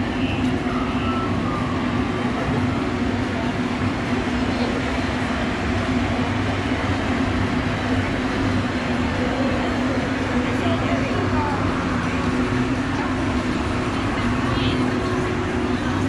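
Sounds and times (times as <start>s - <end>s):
crowd murmur: 0.0s - 16.0s.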